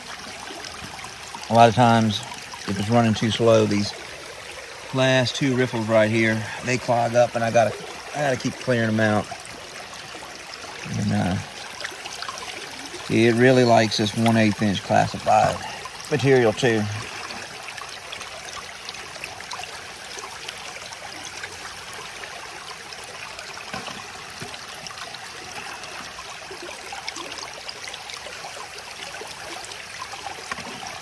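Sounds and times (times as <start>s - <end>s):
water rushing through sluice box: 0.0s - 31.0s.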